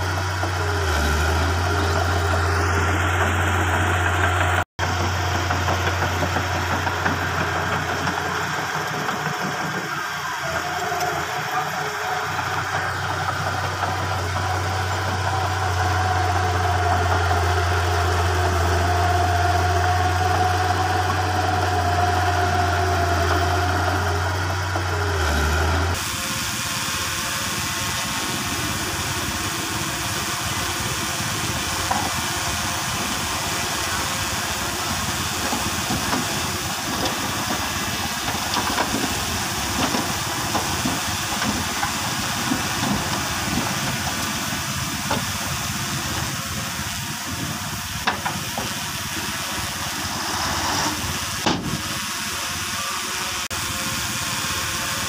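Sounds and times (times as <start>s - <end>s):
diesel engines rumbling: 0.0s - 55.0s.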